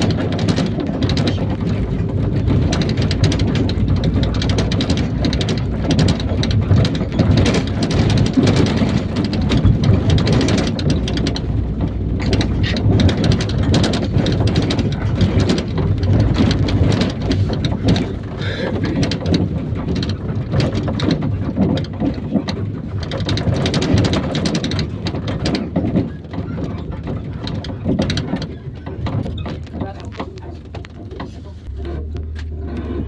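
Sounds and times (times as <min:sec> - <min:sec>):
bus engine and road rumble: 0:00.0 - 0:33.0
rattling and clattering: 0:00.0 - 0:33.0.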